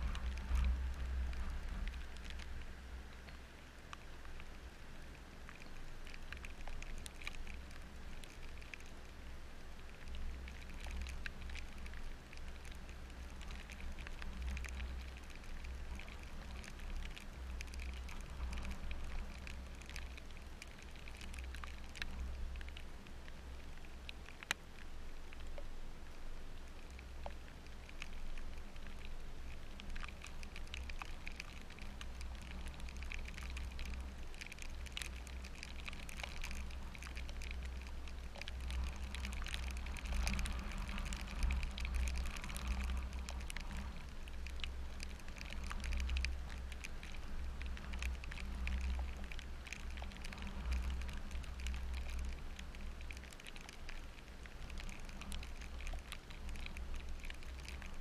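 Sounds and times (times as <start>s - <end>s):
low steady rumble: 0.0s - 58.0s
raindrops pattering: 0.0s - 58.0s.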